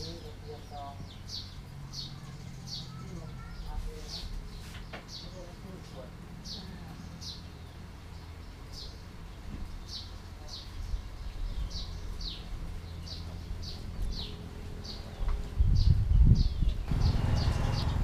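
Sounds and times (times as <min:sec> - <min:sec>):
small bird chirping: 0:00.0 - 0:05.8, 0:06.4 - 0:18.0.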